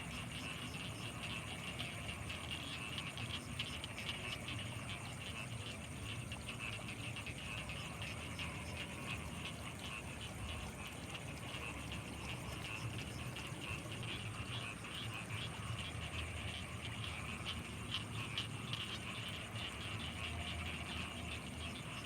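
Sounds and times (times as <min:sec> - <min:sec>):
chorus of frogs calling: 0:00.0 - 0:22.0
steady high-pitched whine: 0:00.0 - 0:22.0.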